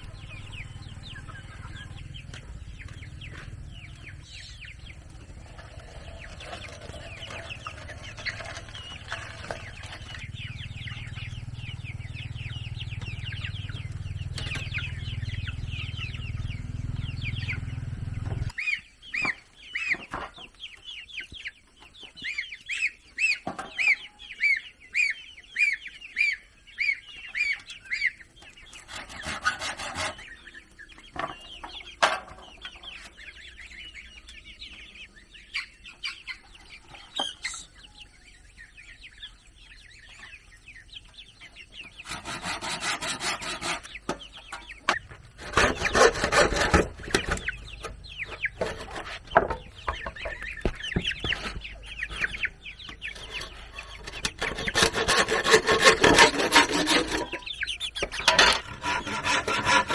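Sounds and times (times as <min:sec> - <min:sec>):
chickens cheeping: 0:00.0 - 0:59.9.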